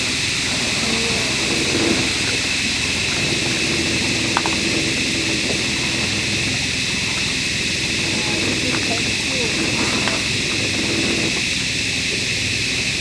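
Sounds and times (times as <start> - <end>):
high hiss: 0.0 - 13.0
outboard motors idling: 0.0 - 13.0.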